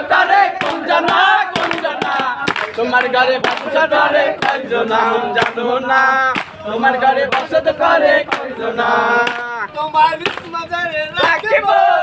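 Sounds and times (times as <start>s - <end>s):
group of men singing: 0.0s - 12.0s.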